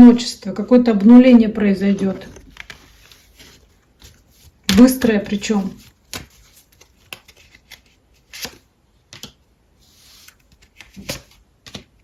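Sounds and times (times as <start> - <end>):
cards slapping and rustling: 1.9 - 12.0.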